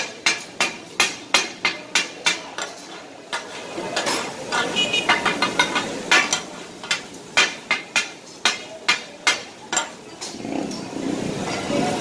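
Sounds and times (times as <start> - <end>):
metal spatulas clanging on griddle: 0.0 - 10.4.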